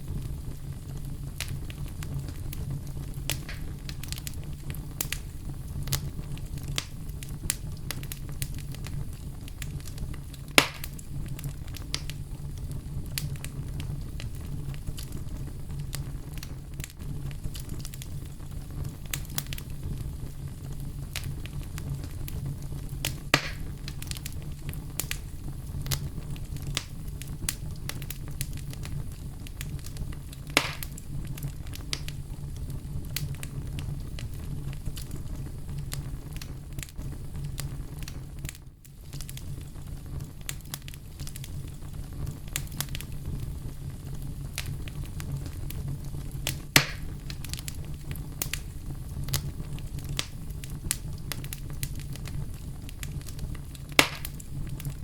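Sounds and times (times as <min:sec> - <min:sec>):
bonfire burning and crackling: 0:00.0 - 0:55.0
loud fire pops: 0:00.0 - 0:55.0.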